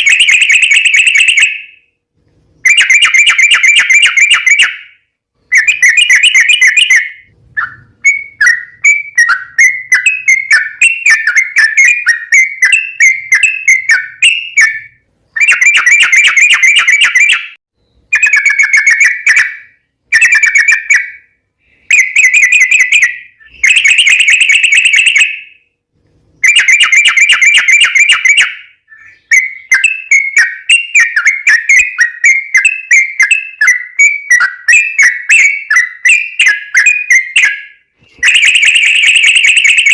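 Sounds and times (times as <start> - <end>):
bulbul singing: 2.6 - 25.6, 26.4 - 39.9.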